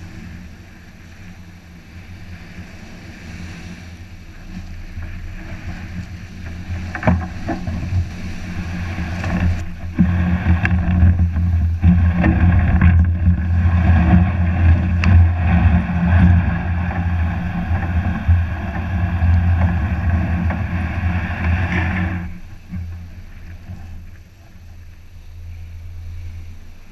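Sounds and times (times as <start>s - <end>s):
breaking surf: 0.0s - 26.9s
wind buffeting microphone: 1.4s - 26.9s.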